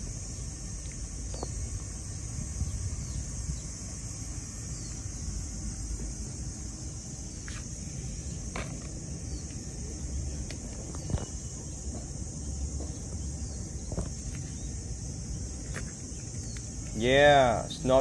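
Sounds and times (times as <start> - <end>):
high-pitched insect drone: 0.0 - 18.0
low wind rumble: 0.0 - 18.0.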